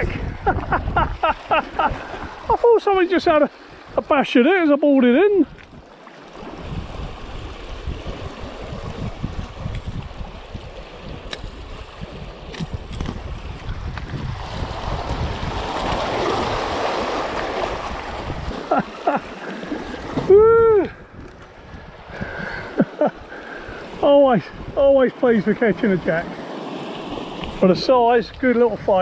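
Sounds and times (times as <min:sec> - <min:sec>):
wind buffeting microphone: 0:00.0 - 0:04.1, 0:05.4 - 0:18.9, 0:19.6 - 0:26.2
sea waves washing over rocks: 0:00.0 - 0:29.0.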